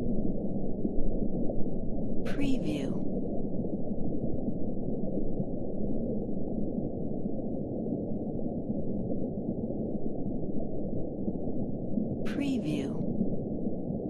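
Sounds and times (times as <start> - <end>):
muffled low underwater rumble: 0.0 - 14.0.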